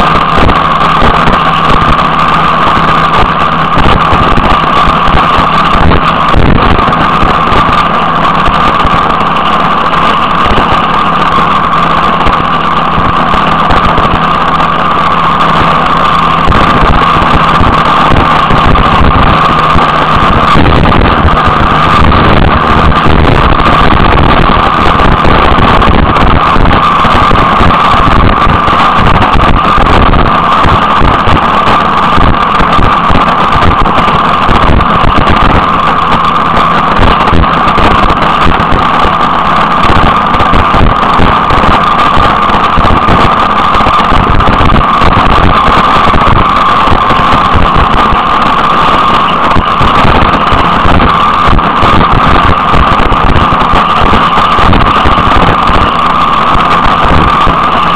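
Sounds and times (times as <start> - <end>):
constant high drone: 0.0 - 57.9
vehicle engine and wind noise: 0.0 - 57.9
wind buffeting microphone: 0.0 - 57.9.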